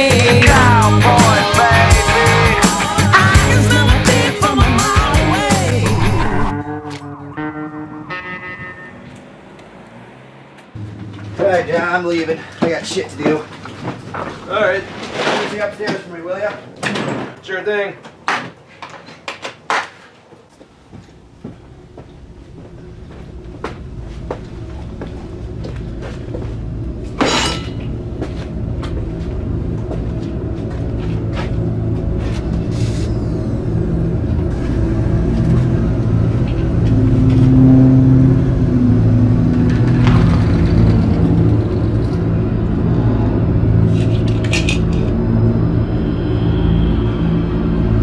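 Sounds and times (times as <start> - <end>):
low droning music: 0.0 - 13.3, 21.6 - 48.0.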